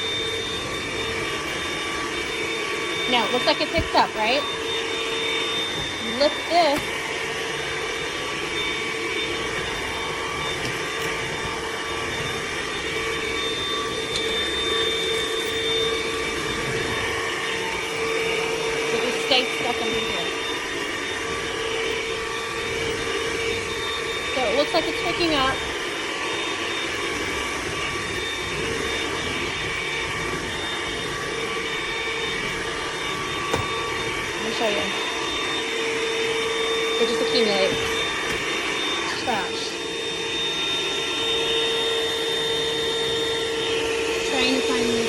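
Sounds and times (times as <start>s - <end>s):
stick vacuum running: 0.0s - 45.0s.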